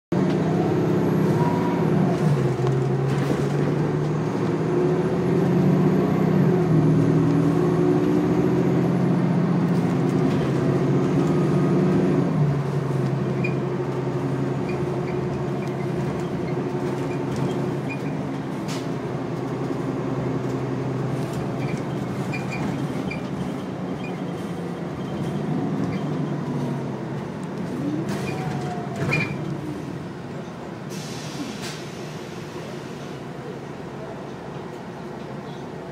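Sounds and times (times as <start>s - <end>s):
bus diesel engine running: 0.1s - 35.9s
road noise: 0.1s - 35.9s.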